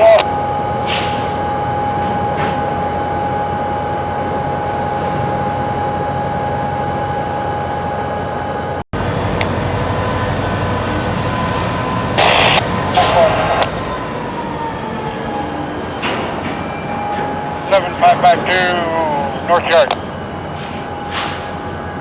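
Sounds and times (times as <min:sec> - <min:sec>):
high-pitched whine: 0:00.0 - 0:22.0
train rumbling: 0:00.0 - 0:22.0.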